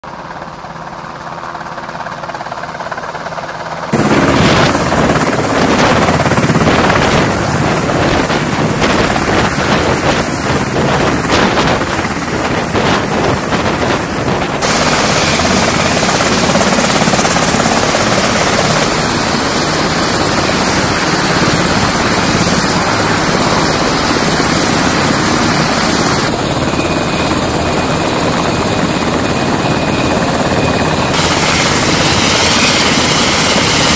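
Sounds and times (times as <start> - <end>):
helicopter rotors and engines: 0.0 - 33.9.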